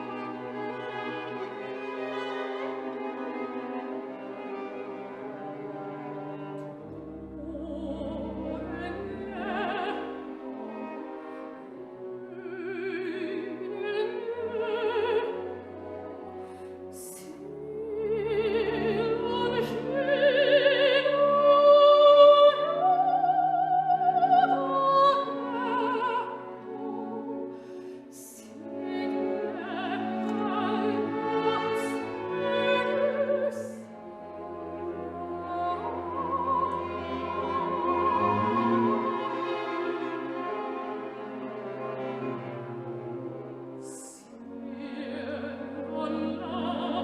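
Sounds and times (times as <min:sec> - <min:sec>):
operatic singing: 0:00.0 - 0:47.0
orchestral accompaniment: 0:00.0 - 0:47.0.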